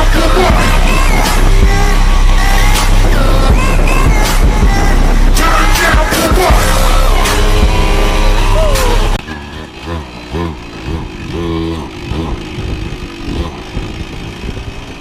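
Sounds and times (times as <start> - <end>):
loud music: 0.0 - 14.0
small motorbike engine revving: 0.0 - 15.0.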